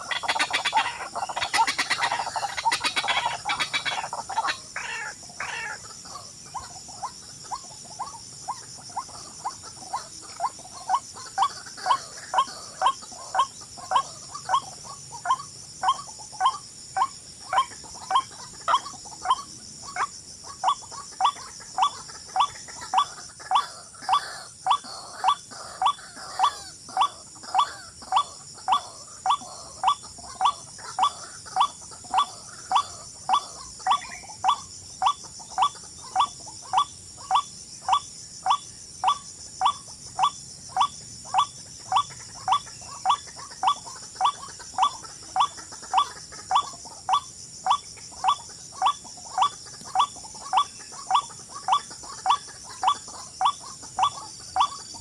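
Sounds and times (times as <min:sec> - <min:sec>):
animal chirping call: 0:00.0 - 0:05.9, 0:06.5 - 0:55.0.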